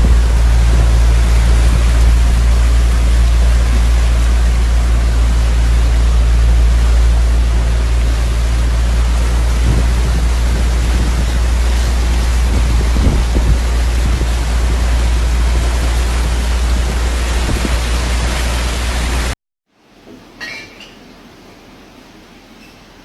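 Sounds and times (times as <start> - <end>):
heavy rain pouring: 0.0 - 19.4
loud low rumble: 0.0 - 19.4.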